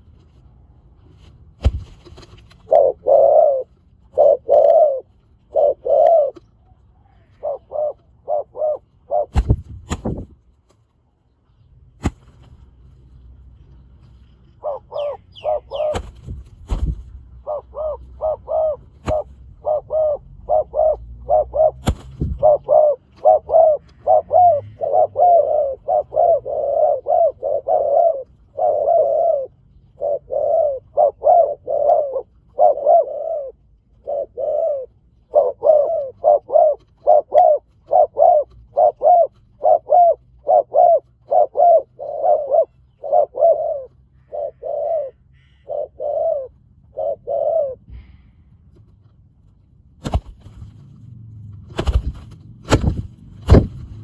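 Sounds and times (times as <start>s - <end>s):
doves cooing: 1.6s - 10.4s, 14.3s - 48.2s, 50.0s - 50.9s, 51.7s - 54.0s.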